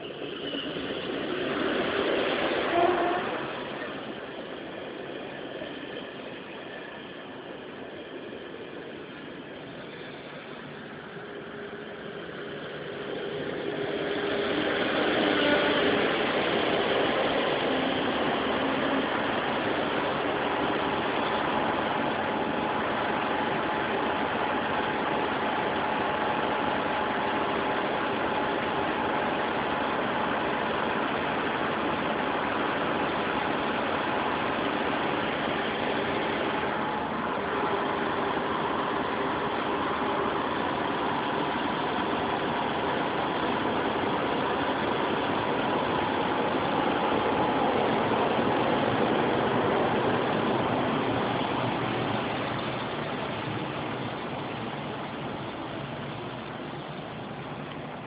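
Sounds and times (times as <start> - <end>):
diesel engines idling: 0.0 - 58.0.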